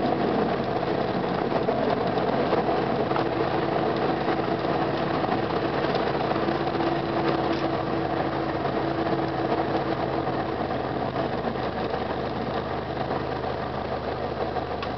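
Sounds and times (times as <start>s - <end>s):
piston plane engine idling: 0.0s - 14.9s.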